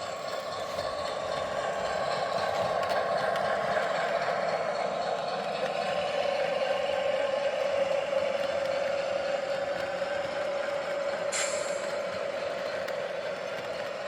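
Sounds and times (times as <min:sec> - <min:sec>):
model locomotive motor hum: 0:00.0 - 0:14.0.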